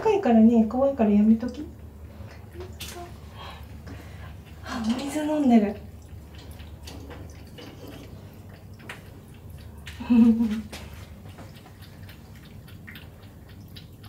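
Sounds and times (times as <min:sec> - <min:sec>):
low humming voice sound: 0:00.0 - 0:14.0
cat lapping water: 0:01.0 - 0:14.0.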